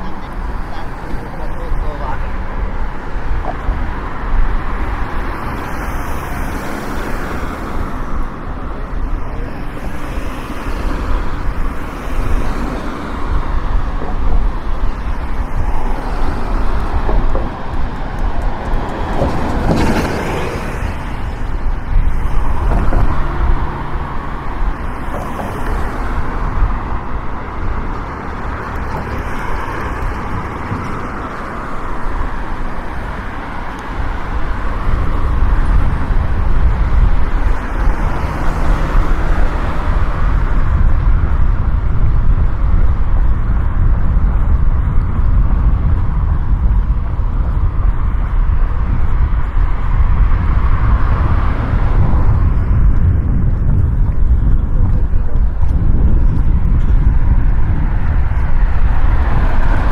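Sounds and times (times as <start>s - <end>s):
passing cars rushing: 0.0s - 59.9s
vehicle passing close: 0.0s - 59.9s.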